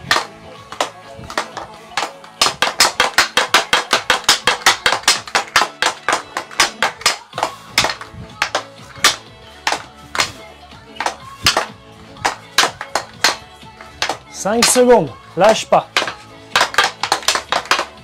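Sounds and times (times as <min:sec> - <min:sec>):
hockey stick clacking puck: 0:00.0 - 0:10.4, 0:11.0 - 0:18.0
background music: 0:00.0 - 0:18.0.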